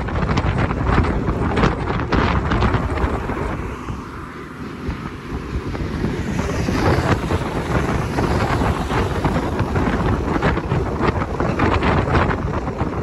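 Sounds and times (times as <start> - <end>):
train running on track: 0.0 - 13.0
wind buffeting microphone: 0.0 - 13.0.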